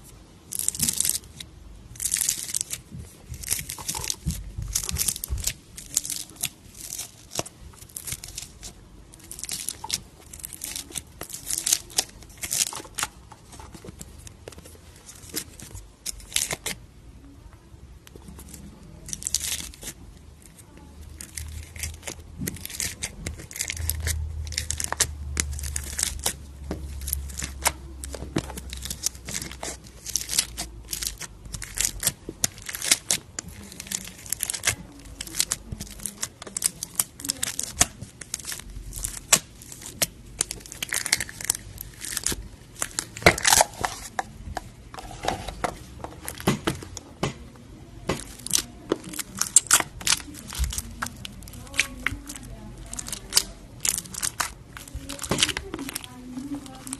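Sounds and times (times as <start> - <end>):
slime crackling and popping: 0.1 - 16.8, 18.0 - 47.4, 48.0 - 56.9.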